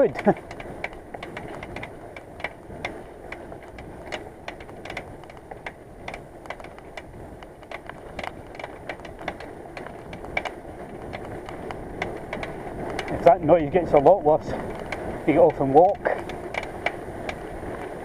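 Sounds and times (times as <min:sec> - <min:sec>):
bicycle hub clicking: 0:00.0 - 0:18.0
road and tyre noise: 0:00.0 - 0:18.0.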